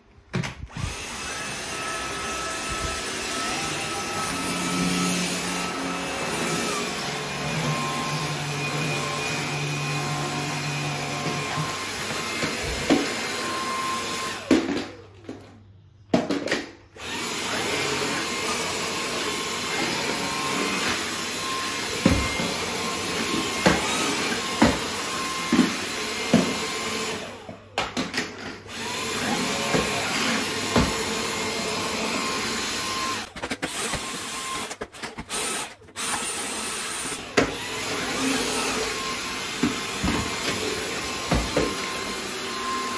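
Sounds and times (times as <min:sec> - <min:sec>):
stick vacuum cleaner running: 0:00.7 - 0:15.4, 0:17.0 - 0:42.9.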